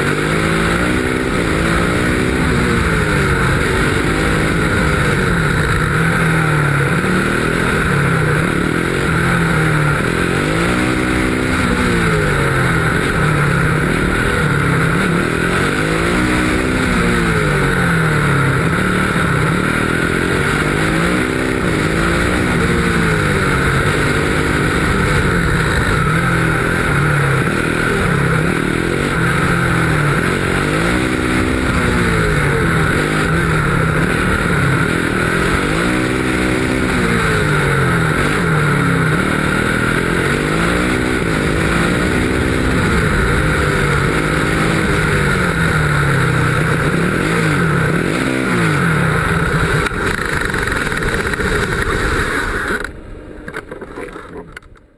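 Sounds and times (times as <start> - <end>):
race car engine revving: 0.0 - 54.8
wind and tyre noise: 0.0 - 54.9.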